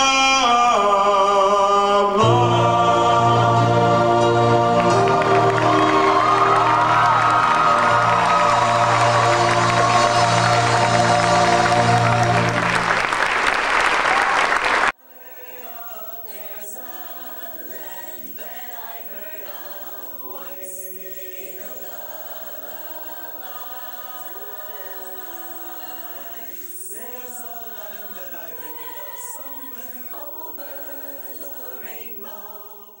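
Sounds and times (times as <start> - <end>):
choir singing in harmony: 0.0 - 13.8, 14.8 - 33.0.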